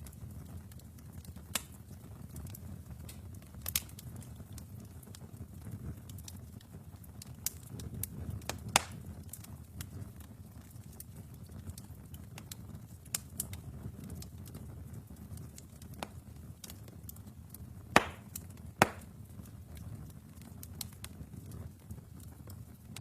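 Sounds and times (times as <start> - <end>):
low rumble of flames: 0.0 - 23.0
wood fire crackles and pops: 0.0 - 23.0.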